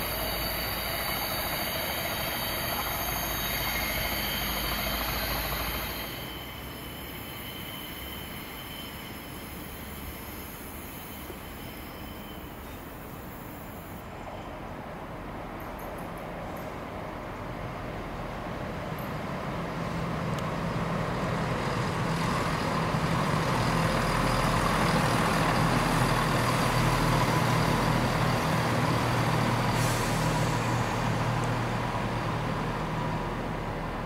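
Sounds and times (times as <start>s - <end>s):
train engine drone with whine: 0.0s - 34.0s.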